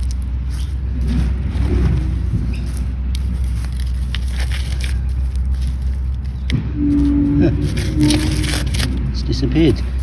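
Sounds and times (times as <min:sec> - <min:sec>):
clicks and scrapes of digging soil: 0:00.0 - 0:10.0
steady low rumble: 0:00.0 - 0:10.0.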